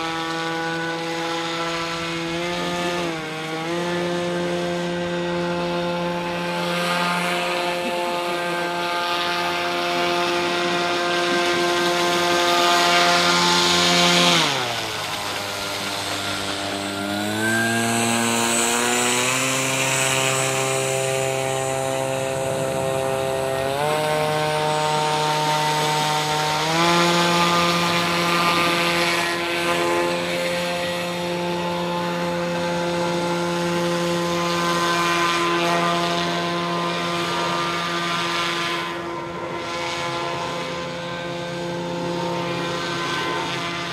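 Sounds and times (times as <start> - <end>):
electric motor propeller whine: 0.0 - 43.9.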